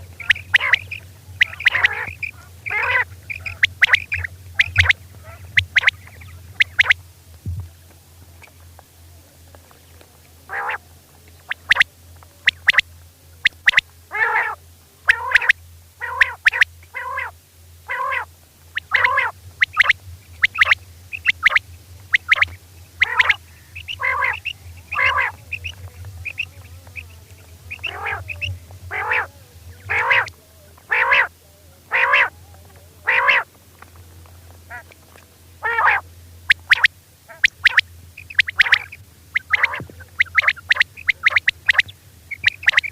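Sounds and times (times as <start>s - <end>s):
quail calling: 0.0s - 7.0s, 10.5s - 10.8s, 11.4s - 33.6s, 34.5s - 42.9s
low hum: 0.0s - 42.9s.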